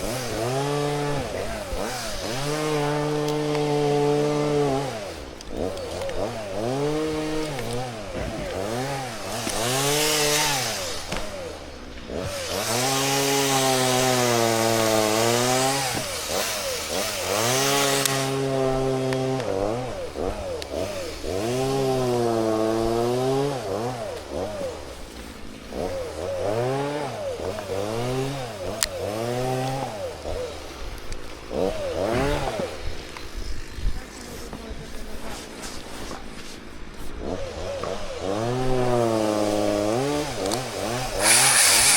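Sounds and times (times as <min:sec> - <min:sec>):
chainsaw revving: 0:00.0 - 0:36.2, 0:36.9 - 0:41.9
chainsaw cutting wood: 0:00.0 - 0:41.9.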